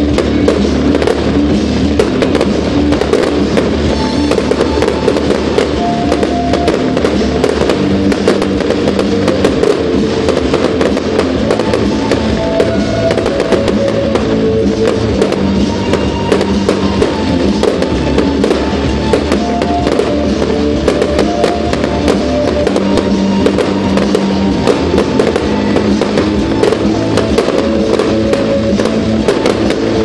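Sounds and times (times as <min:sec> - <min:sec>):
fireworks crackling and banging: 0:00.0 - 0:30.0
music: 0:00.0 - 0:30.0.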